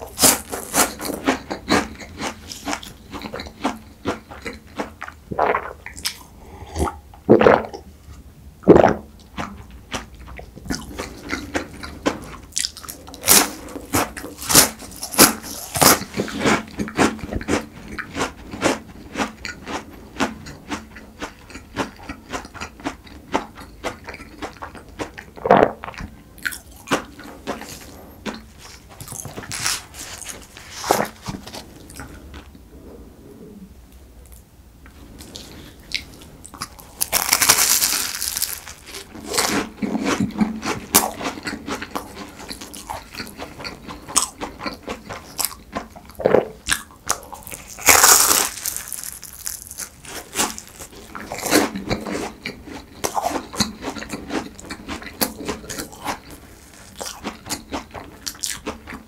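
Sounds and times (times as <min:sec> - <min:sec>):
crunchy pastry chewing: 0:00.0 - 0:06.9, 0:09.2 - 0:32.6, 0:35.0 - 0:59.0.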